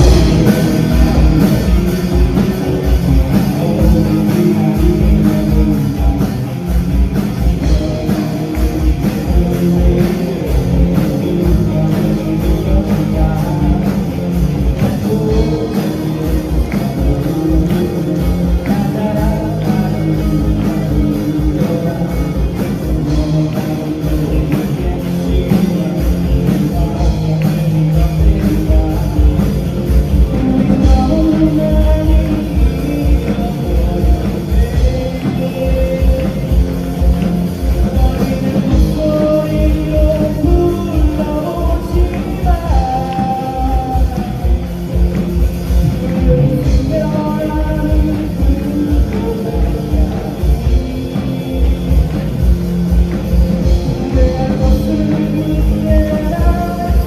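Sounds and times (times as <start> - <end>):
drum kit steady beat: 0.0 - 57.0
live rock band playing: 0.0 - 57.0.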